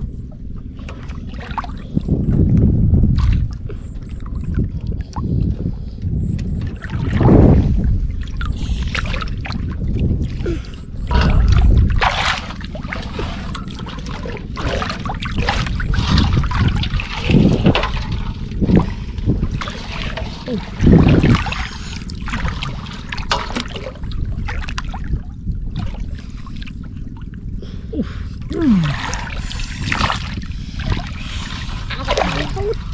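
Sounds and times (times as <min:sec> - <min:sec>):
water sloshing and splashing: 0:00.0 - 0:32.9.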